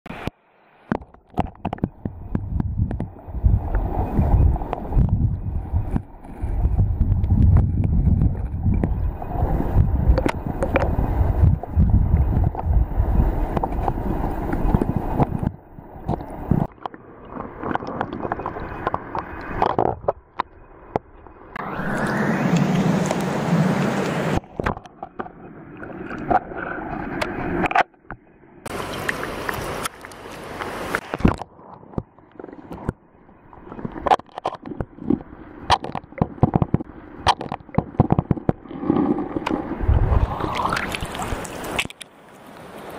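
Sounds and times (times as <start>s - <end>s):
water splashing: 0.1s - 27.8s, 28.7s - 42.9s
rushing water: 0.1s - 27.9s, 28.6s - 42.9s
muffled underwater river current: 0.1s - 42.9s.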